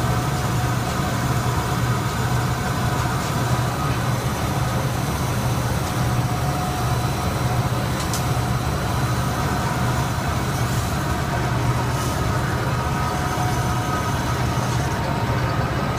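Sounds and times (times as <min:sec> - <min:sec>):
industrial machine drone: 0:00.0 - 0:15.9.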